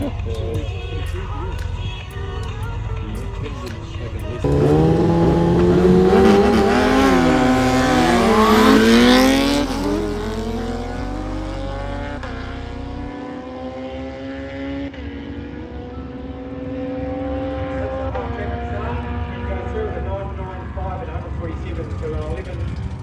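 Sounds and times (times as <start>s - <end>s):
race engines at full throttle: 4.4s - 23.0s.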